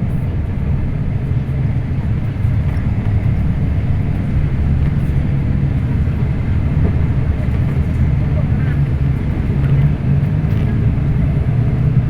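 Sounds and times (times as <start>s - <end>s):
bus diesel engine drone: 0.0s - 12.0s.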